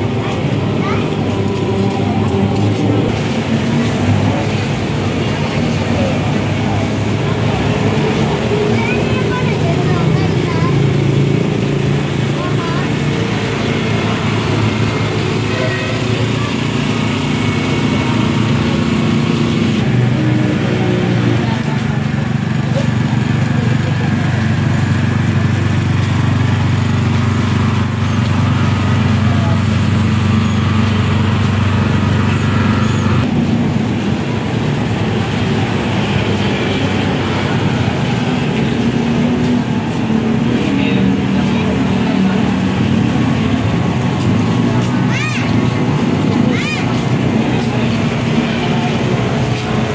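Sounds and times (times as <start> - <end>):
engine hum: 0.0 - 49.9
street noise: 0.0 - 49.9.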